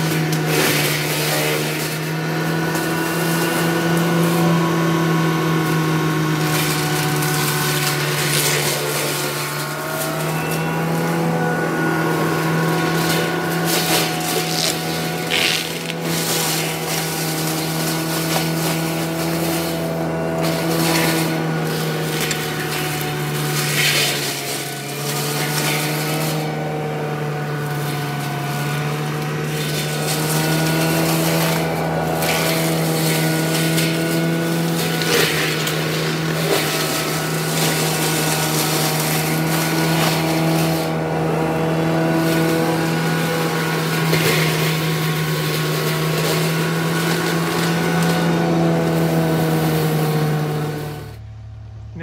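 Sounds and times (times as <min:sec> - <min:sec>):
diesel engine running: 0:00.0 - 0:52.0
mulcher shredding brush: 0:00.0 - 0:52.0.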